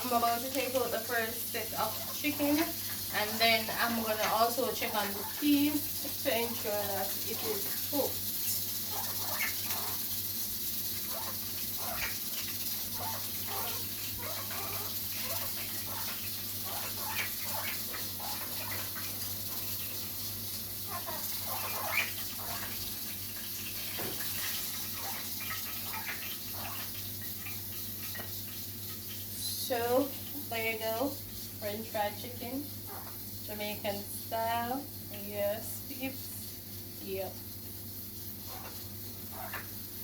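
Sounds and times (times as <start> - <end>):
chicken frying in hot oil: 0.0 - 40.0.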